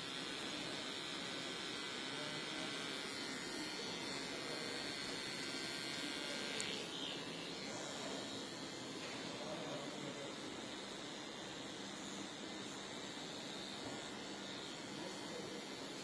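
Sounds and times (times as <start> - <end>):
electric hair appliance whirring: 0.0 - 16.0.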